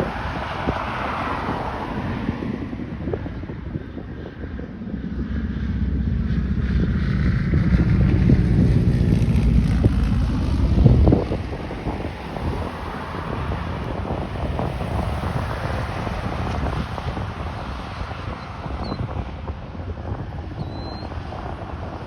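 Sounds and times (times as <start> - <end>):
propeller plane engines rumbling: 0.0 - 22.0
wind buffeting microphone: 0.0 - 22.0.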